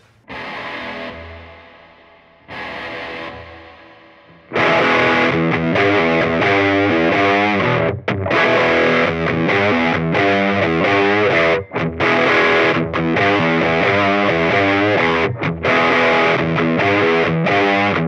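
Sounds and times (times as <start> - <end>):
overdriven electric guitar lead: 0.3 - 18.0.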